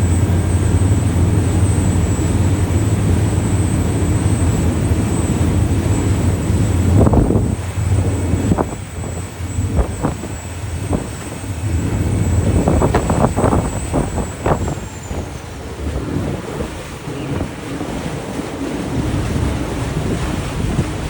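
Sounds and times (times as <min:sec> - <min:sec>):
boat engine rumbling: 0:00.0 - 0:21.0
water noise: 0:00.0 - 0:21.0
wind on microphone: 0:00.0 - 0:21.0.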